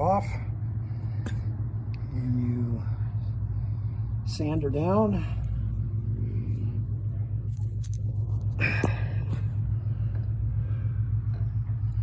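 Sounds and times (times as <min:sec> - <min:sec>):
pulsing low hum: 0:00.0 - 0:12.0.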